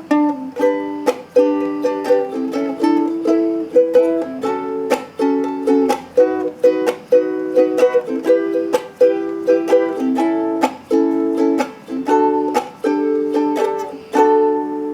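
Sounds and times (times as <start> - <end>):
ukulele strumming chords: 0.0 - 14.9.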